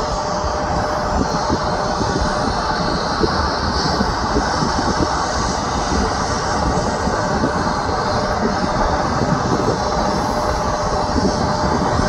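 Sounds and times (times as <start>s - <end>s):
faint steady whine: 0.0s - 12.0s
helicopter turbine and rotor: 0.0s - 12.0s.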